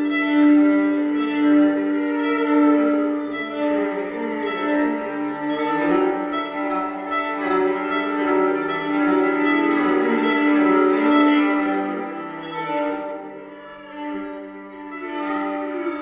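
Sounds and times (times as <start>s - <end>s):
violin playing slow ambient music: 0.0s - 16.0s.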